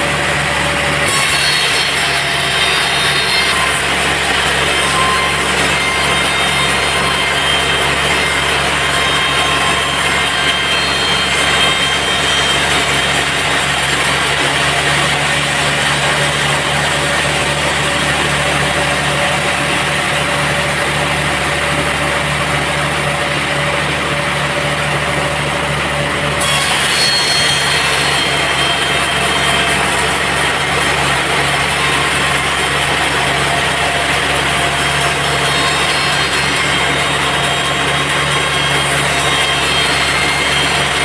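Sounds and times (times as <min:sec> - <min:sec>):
band saw machine hum: 0:00.0 - 0:41.0.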